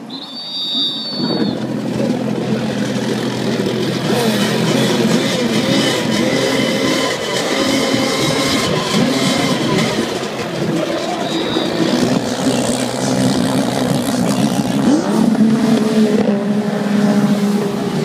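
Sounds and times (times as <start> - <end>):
jetski engines revving: 0.0 - 18.0.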